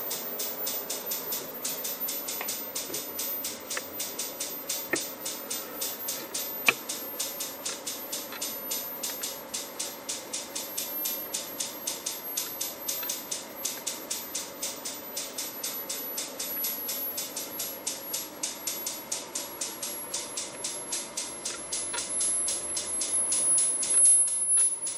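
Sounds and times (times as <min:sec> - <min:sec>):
faint steady hum: 0:00.0 - 0:24.9
high-pitched whine: 0:00.0 - 0:24.9
rapid even ticking: 0:00.0 - 0:24.9.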